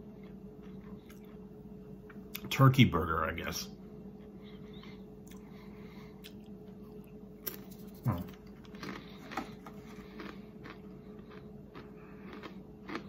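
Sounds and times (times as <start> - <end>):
chewing crisp potato chips: 0.0 - 2.8, 4.1 - 13.0
low hum: 0.0 - 13.0.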